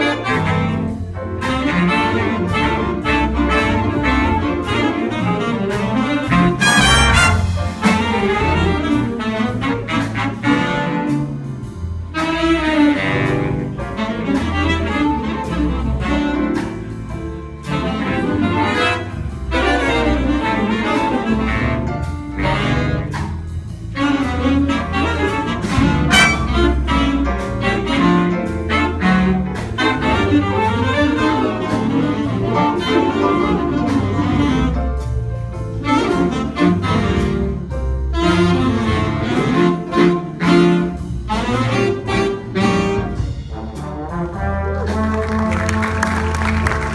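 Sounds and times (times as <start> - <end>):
upbeat jazzy band music: 0.0 - 46.9.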